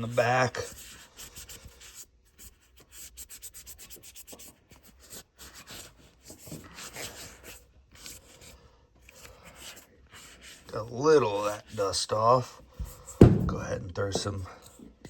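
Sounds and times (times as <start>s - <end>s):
hand scrubbing metal: 0.0s - 15.0s.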